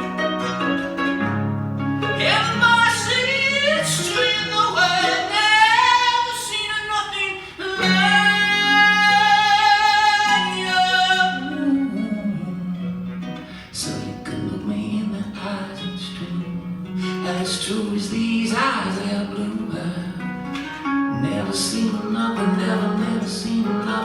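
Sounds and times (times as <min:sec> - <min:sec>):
acoustic guitar: 0:00.0 - 0:24.0
person singing: 0:02.0 - 0:24.0.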